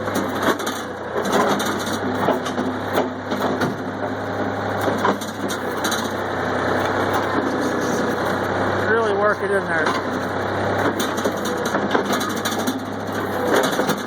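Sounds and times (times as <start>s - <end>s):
backhoe engine running: 0.0s - 14.0s.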